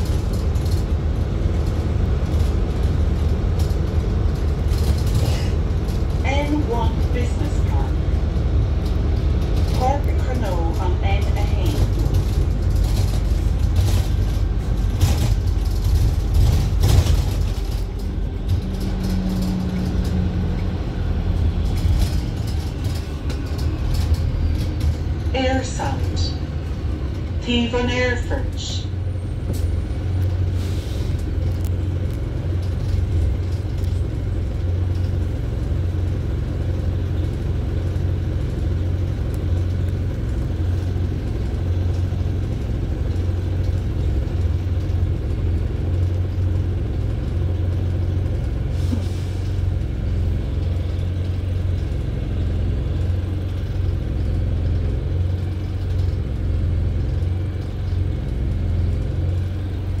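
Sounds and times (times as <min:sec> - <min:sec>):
bus engine and road rumble: 0:00.0 - 1:00.0.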